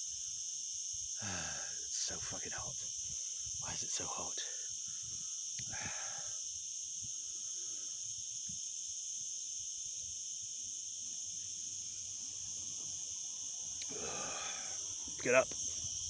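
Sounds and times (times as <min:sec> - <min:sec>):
insect chorus buzzing: 0:00.0 - 0:16.0.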